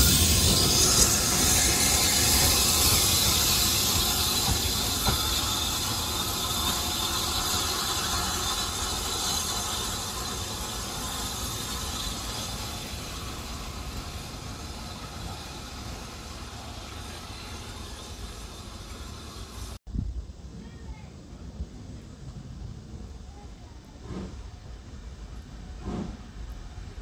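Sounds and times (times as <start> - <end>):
steam locomotive hissing: 0.0 - 19.8, 22.2 - 27.0.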